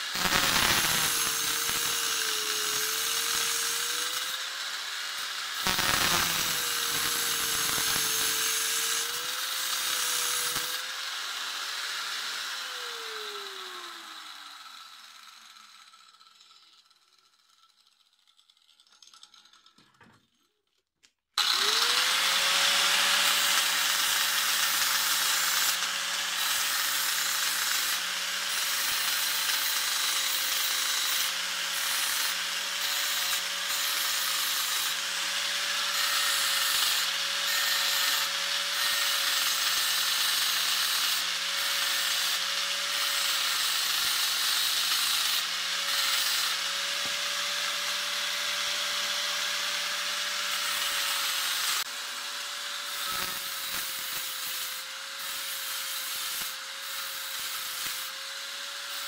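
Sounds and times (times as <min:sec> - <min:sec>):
angle grinder grinding steel: 0:00.0 - 0:20.5, 0:21.4 - 0:59.0.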